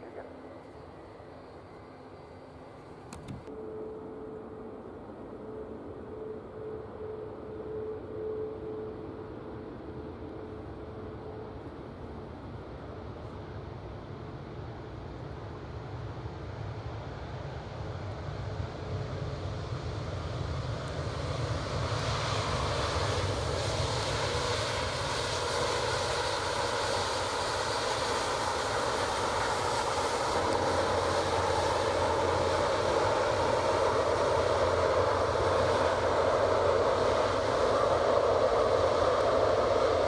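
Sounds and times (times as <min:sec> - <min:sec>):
jet engines roaring with whine: 0:00.0 - 0:40.0.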